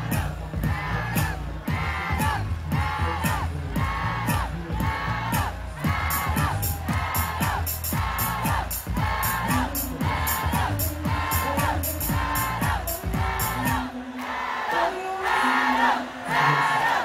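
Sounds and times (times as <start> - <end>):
pop music over loudspeakers: 0.0 - 17.0.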